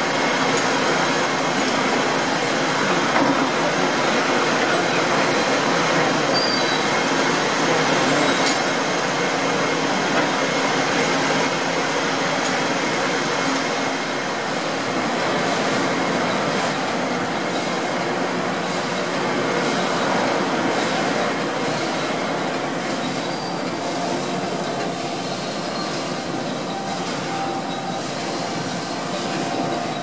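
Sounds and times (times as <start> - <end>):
belt-driven machinery running: 0.0 - 30.0.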